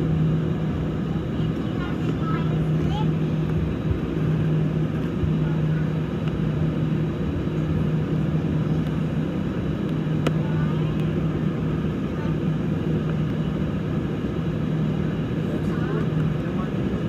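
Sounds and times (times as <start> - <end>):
jet engines humming: 0.0 - 17.0.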